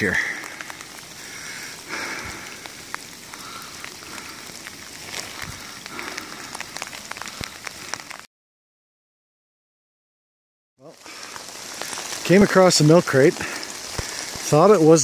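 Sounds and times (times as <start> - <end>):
rain falling in forest: 0.0 - 8.3, 10.8 - 15.0.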